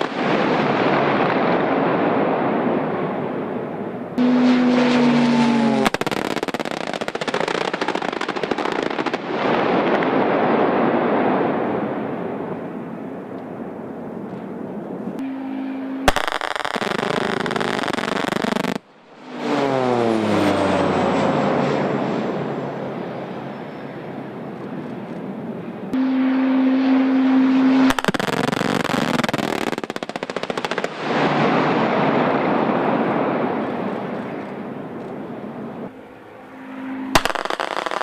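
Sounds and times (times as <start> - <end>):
aircraft passing: 0.0 - 38.0.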